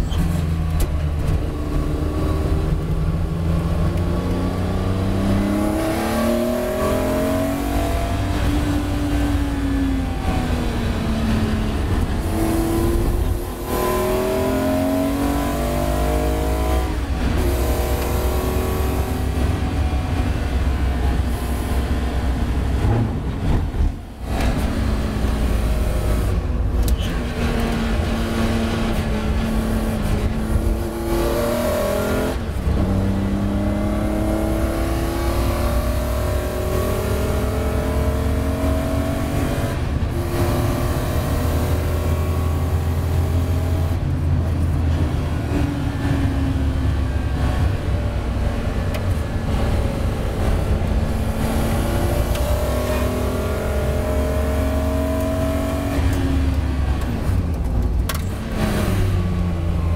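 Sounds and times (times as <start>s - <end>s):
race car engine revving: 0.7s - 59.9s.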